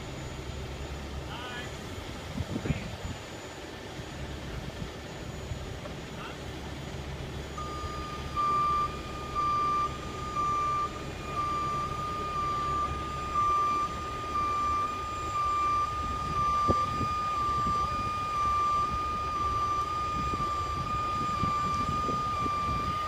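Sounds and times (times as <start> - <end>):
diesel truck engine running: 0.0 - 23.0
warning alarm beeping: 0.0 - 23.0.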